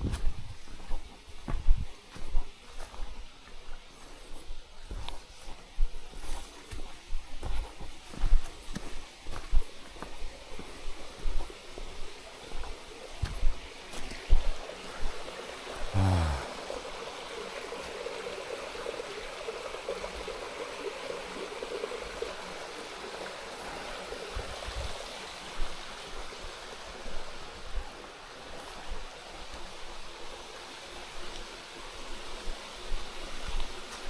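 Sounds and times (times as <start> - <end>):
running water rushing: 0.0 - 34.0.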